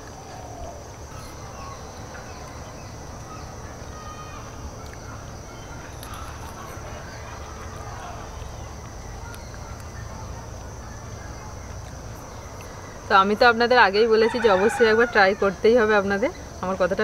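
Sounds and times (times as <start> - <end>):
bird calls: 0.0 - 13.7.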